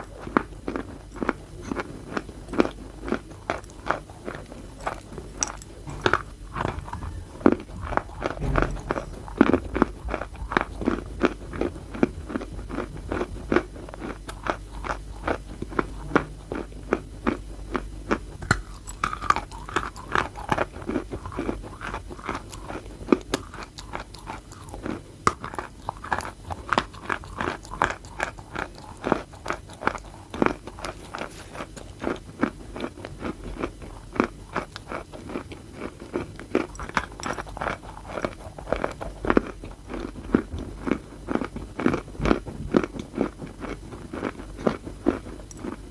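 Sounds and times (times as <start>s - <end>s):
crunchy chewing of chalk: 0.0s - 45.9s.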